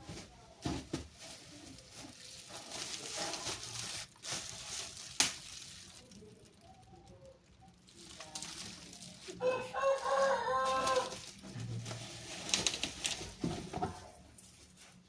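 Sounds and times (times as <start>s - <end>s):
parcel packaging rustling: 0.1s - 15.0s.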